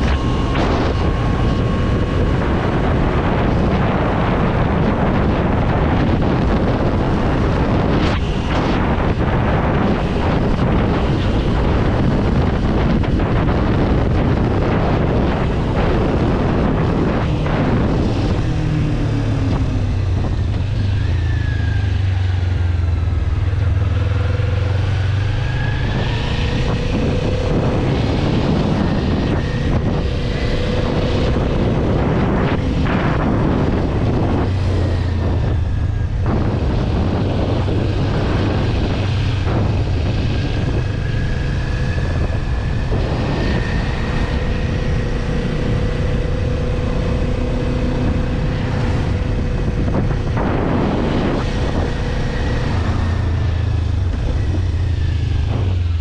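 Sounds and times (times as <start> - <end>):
motorcycle engine cruising: 0.0 - 56.0
wind noise on microphone: 0.0 - 56.0.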